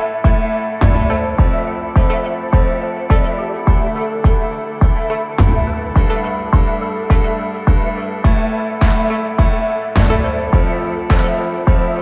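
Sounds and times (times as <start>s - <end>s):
steady deep beat: 0.0s - 12.0s.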